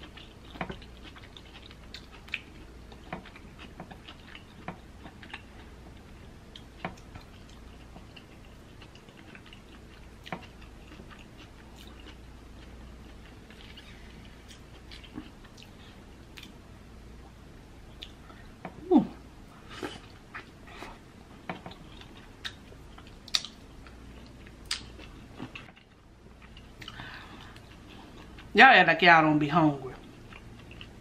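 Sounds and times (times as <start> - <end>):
person chewing wet food: 0.0 - 16.6, 17.2 - 18.9, 19.5 - 28.5, 30.0 - 31.0.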